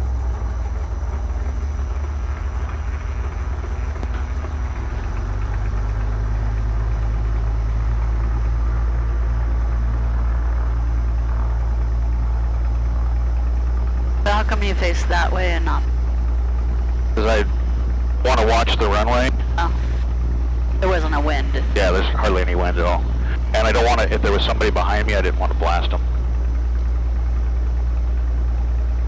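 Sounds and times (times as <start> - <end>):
aircraft piston engine droning: 0.0 - 29.0.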